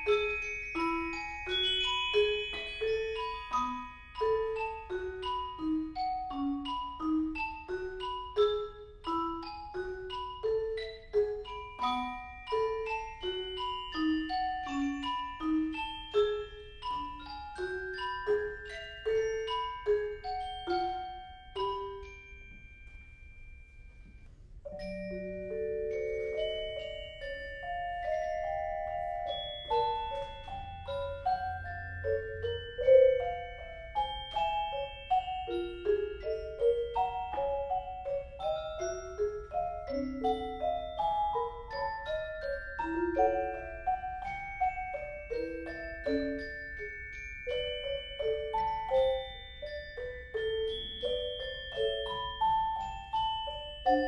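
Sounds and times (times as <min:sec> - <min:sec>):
mallet percussion ensemble playing: 0:00.0 - 0:22.9, 0:24.7 - 0:54.0.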